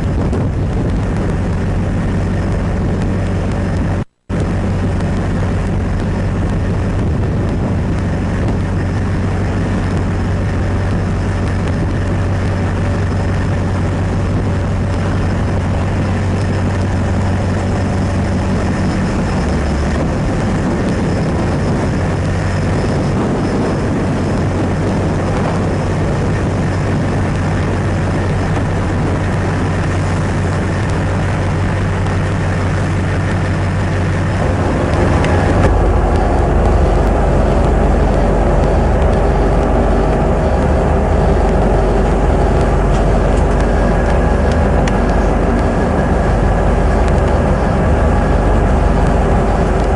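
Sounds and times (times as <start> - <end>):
rushing noise: 0.0 - 49.9
ship engine machinery droning: 0.0 - 49.9.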